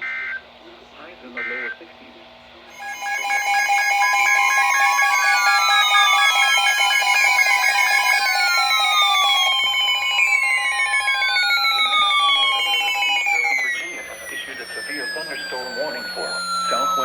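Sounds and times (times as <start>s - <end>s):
steady two-tone attention signal: 2.7s - 17.0s
tones sliding in pitch: 2.7s - 17.0s
warbling data bursts: 2.7s - 17.0s.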